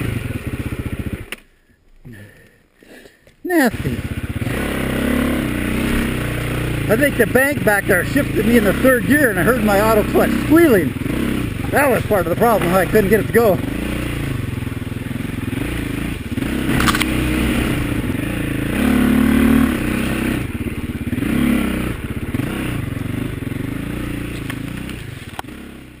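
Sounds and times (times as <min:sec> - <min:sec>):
dirt bike engine revving: 0:00.0 - 0:01.3, 0:03.5 - 0:26.0.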